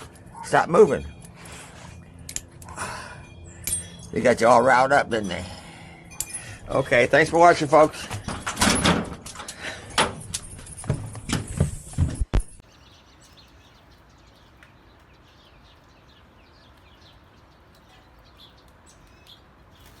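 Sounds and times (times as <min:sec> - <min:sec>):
small birds chirping: 0:00.0 - 0:08.5, 0:12.4 - 0:20.0.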